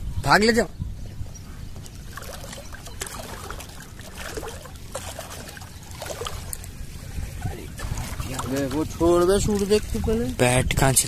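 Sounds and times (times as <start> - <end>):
shallow water splashing: 1.8 - 11.0.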